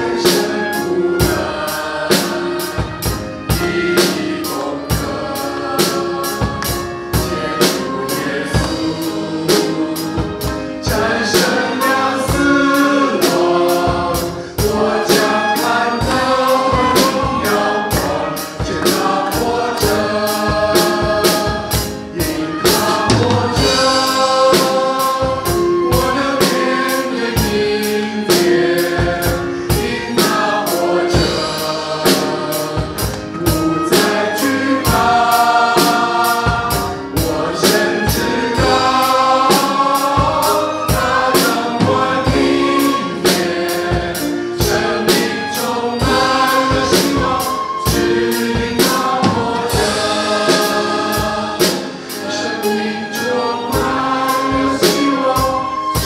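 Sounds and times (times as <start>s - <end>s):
backing vocalists singing: 0.0s - 56.0s
drum kit beat: 0.0s - 56.0s
keyboard: 0.0s - 56.0s
violin: 0.0s - 56.0s.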